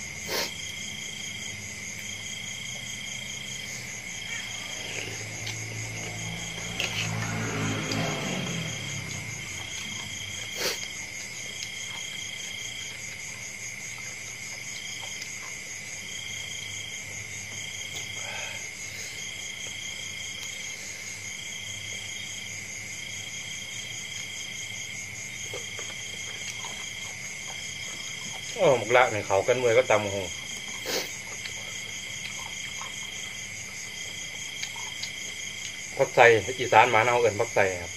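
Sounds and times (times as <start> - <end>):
steady high-pitched insect trill: 0.0 - 37.9.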